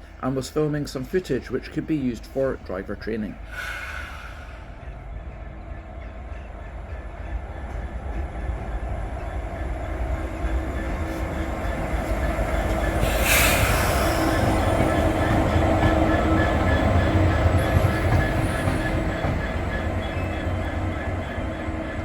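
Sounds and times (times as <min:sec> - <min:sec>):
diesel locomotive engine running: 0:00.0 - 0:22.0.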